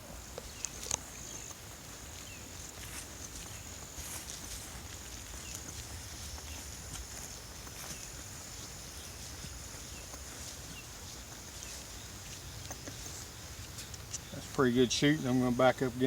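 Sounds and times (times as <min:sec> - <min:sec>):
footsteps through grass: 0:00.0 - 0:16.0
insects droning: 0:00.0 - 0:16.0.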